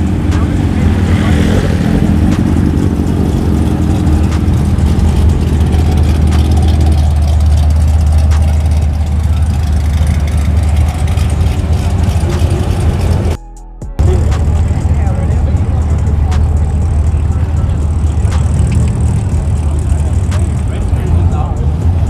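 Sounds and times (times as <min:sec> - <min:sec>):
car engine idling: 0:00.0 - 0:13.4, 0:14.0 - 0:22.0.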